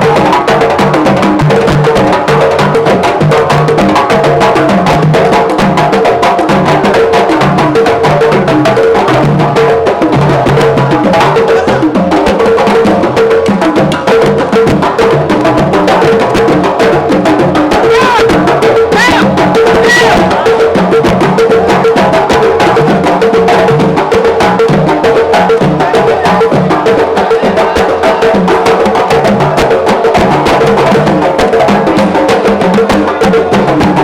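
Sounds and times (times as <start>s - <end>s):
music with drum beat: 0.0s - 34.0s.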